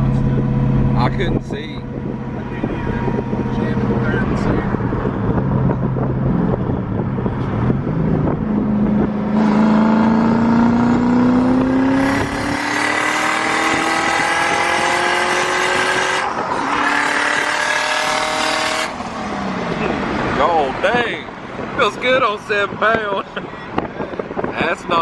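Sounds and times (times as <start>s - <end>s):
car engine accelerating: 0.0s - 22.1s.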